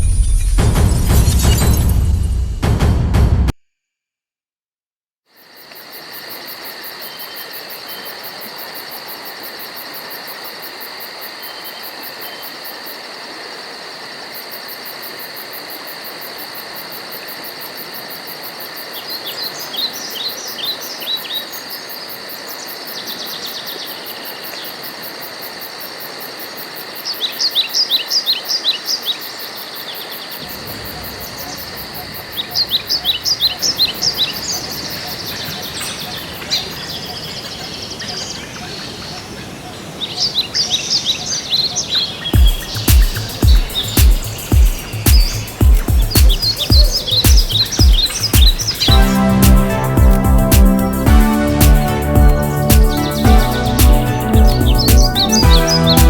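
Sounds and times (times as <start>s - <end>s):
crickets and insects chirping: 5.3s - 56.0s.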